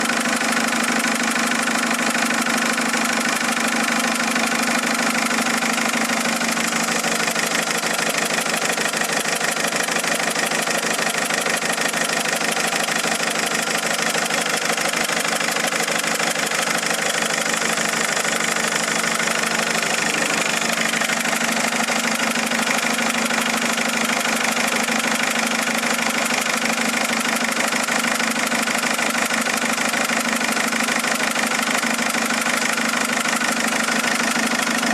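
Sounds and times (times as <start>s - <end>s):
car engine idling with knocking: 0.0s - 34.9s.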